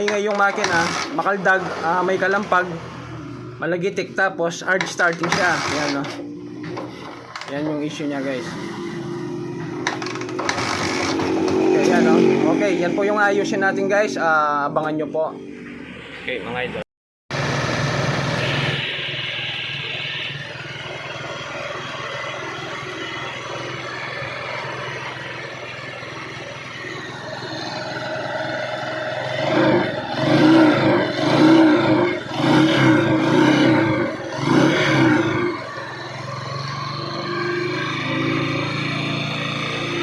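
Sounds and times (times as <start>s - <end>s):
scooter engine running and revving: 0.0s - 14.6s, 17.3s - 40.0s.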